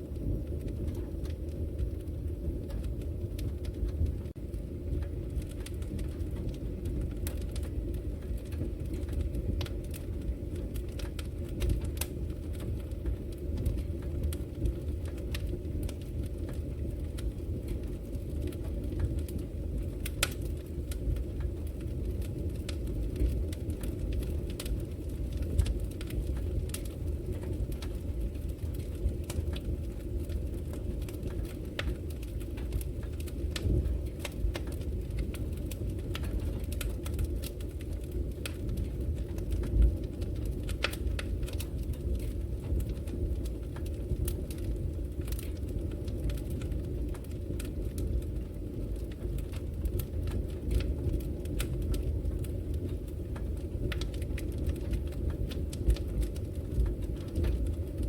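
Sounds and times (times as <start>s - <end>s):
fire rumbling: 0.0s - 58.0s
logs crackling and popping: 0.0s - 58.0s.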